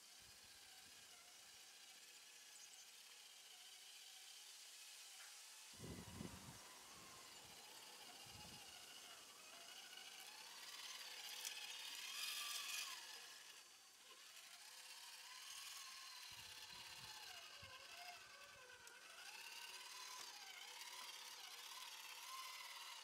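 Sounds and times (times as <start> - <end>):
toy truck motor whining: 0.0 - 23.0.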